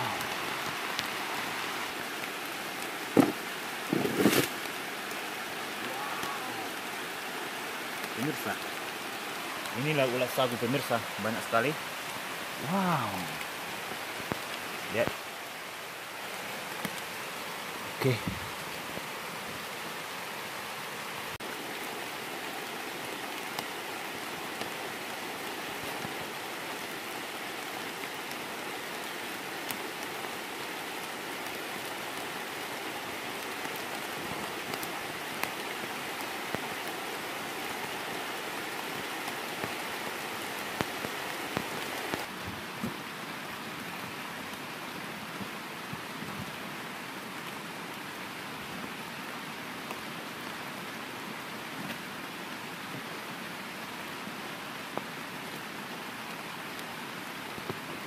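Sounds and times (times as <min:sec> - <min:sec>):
rain taps and clicks: 0:00.0 - 0:58.0
steady rain falling: 0:00.0 - 0:58.0.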